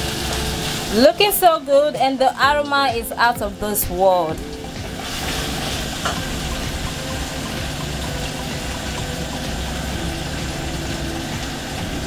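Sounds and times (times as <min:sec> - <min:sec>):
sauce sizzling in pot: 0:00.0 - 0:12.0.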